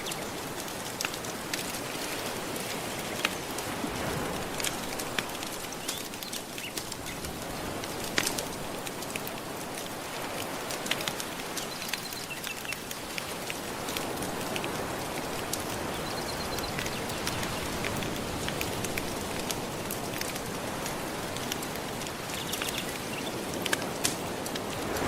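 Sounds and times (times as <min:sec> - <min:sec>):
fireplace crackling and popping: 0:00.0 - 0:25.0
ocean waves washing: 0:00.0 - 0:25.0.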